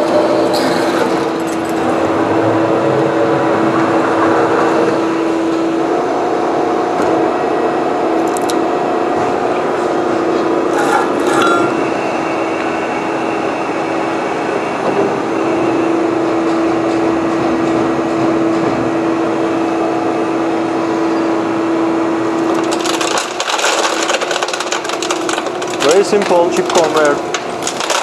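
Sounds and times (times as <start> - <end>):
drilling machine humming: 0.0 - 28.0.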